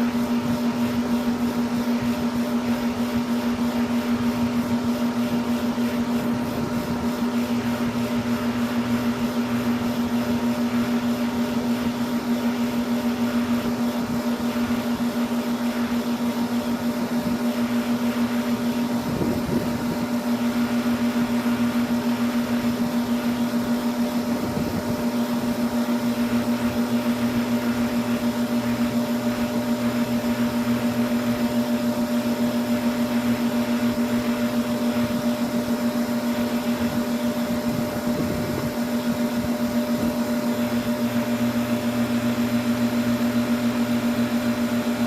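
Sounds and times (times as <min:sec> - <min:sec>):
air conditioner compressor humming: 0:00.0 - 0:45.0.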